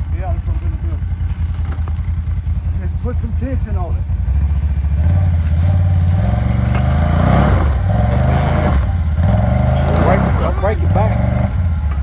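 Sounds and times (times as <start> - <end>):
engine revving under load: 0.0 - 12.0.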